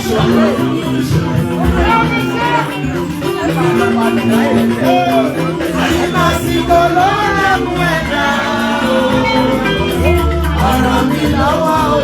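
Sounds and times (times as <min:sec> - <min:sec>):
band with strong bass line: 0:00.0 - 0:12.0
group singing worship music: 0:00.0 - 0:12.0.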